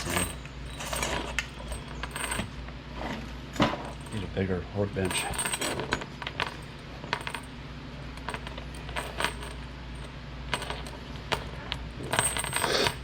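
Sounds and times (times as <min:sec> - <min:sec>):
metal chain links clinking: 0:00.0 - 0:02.6, 0:03.6 - 0:04.4, 0:05.0 - 0:07.6, 0:08.2 - 0:13.0
steady low hum: 0:00.0 - 0:13.0.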